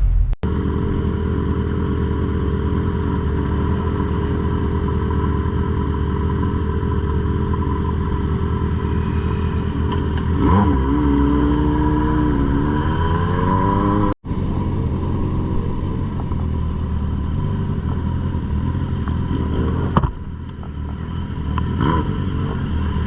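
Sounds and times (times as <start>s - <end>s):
motorcycle engine revving: 0.4s - 23.0s.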